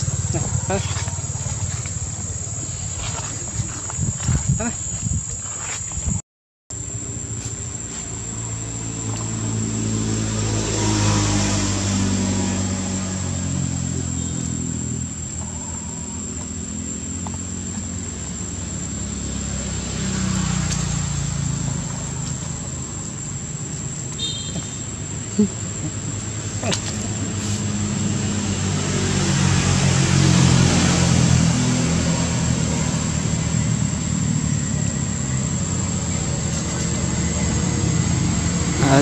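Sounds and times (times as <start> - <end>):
vehicle engines passing: 0.0 - 5.3, 6.8 - 39.0.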